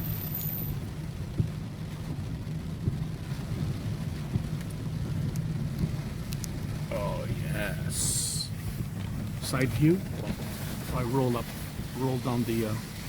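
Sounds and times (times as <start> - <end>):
light ticks of rain: 0.0 - 13.0
vehicle engine and tyres droning: 0.0 - 13.0.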